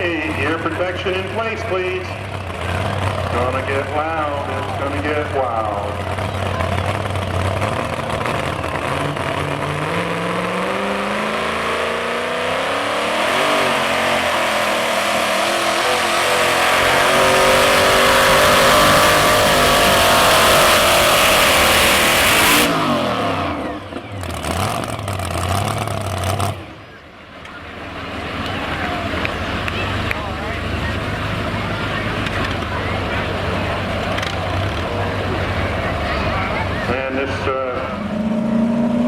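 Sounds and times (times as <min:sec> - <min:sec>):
truck engine revving high: 0:00.0 - 0:39.0.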